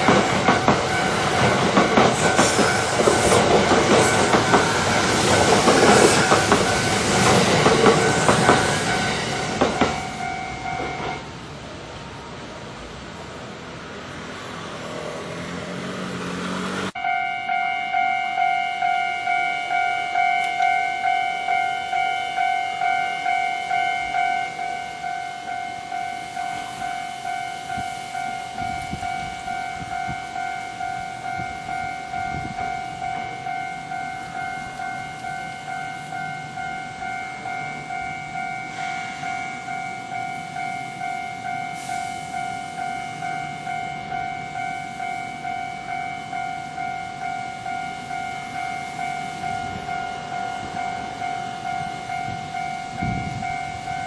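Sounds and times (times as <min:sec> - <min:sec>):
level crossing bell ringing: 0:00.0 - 0:11.2, 0:17.0 - 0:54.0
train passing: 0:00.0 - 0:54.0.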